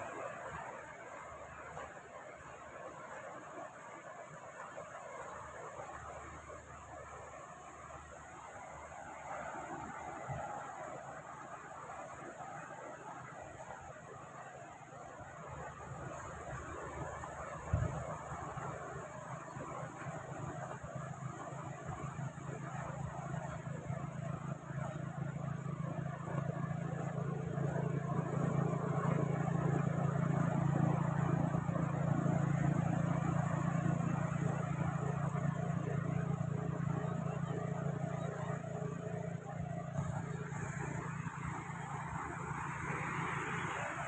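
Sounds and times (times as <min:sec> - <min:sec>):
sea waves washing ashore: 0:00.0 - 0:44.0
steady low hum: 0:00.0 - 0:44.0.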